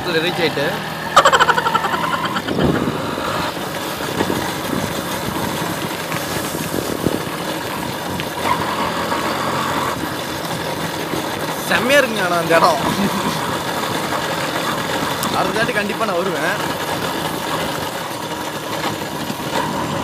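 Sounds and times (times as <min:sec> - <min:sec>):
moped engine running: 0:00.0 - 0:20.0
road noise: 0:00.0 - 0:20.0.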